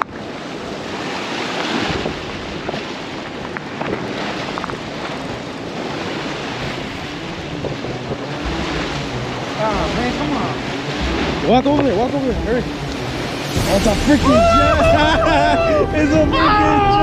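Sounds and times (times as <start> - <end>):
wind buffeting microphone: 0.0 - 16.9
surf washing against rocks: 0.0 - 17.0.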